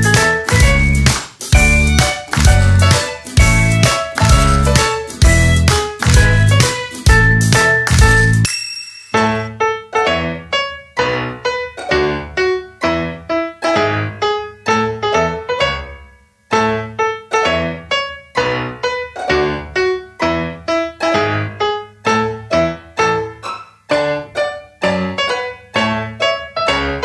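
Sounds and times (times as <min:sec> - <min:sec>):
bouncy keyboard music: 0:00.0 - 0:27.0.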